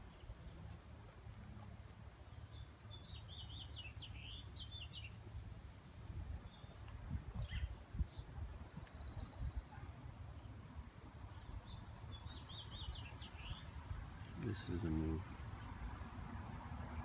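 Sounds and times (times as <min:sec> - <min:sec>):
faint low outdoor rumble: 0:00.0 - 0:17.0
songbird chirping: 0:00.0 - 0:17.0.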